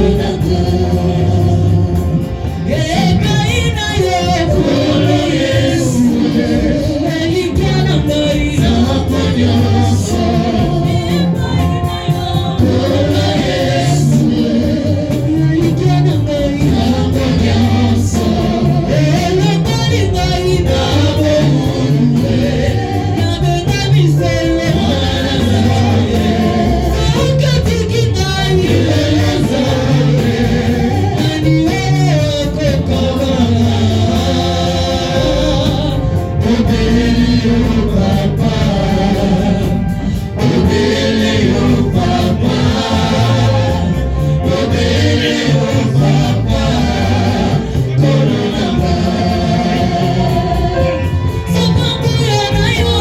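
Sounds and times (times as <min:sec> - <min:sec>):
congregation and choir singing: 0:00.0 - 0:53.0
instrumental backing with bass: 0:00.0 - 0:53.0.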